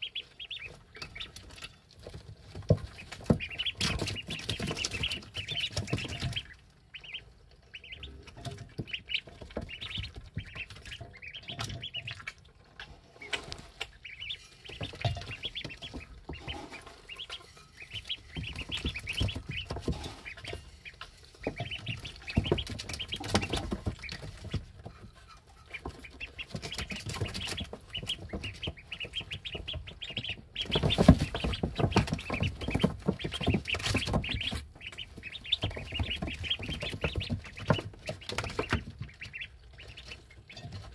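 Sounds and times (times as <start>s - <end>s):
ducklings peeping: 0.0s - 40.9s
rustling and knocking: 0.6s - 6.6s, 8.1s - 12.1s, 12.8s - 40.9s.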